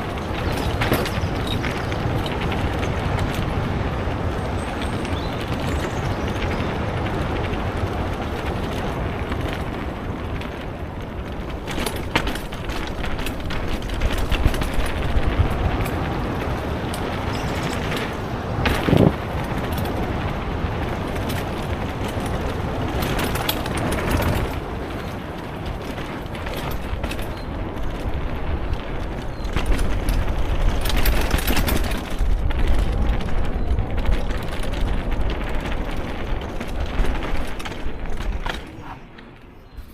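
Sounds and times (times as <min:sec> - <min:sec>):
knocks and rattles from bumps: 0:00.0 - 0:03.7, 0:04.7 - 0:39.9.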